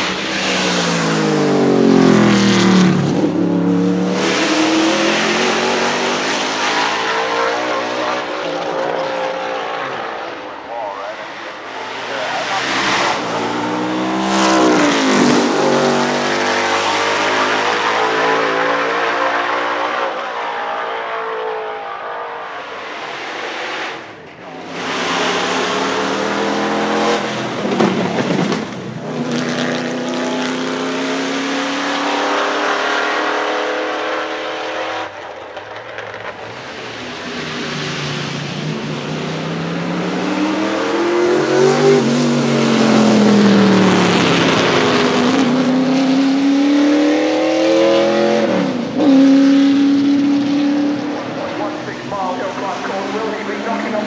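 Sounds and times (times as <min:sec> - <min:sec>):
race car engines passing: 0:00.0 - 0:54.0.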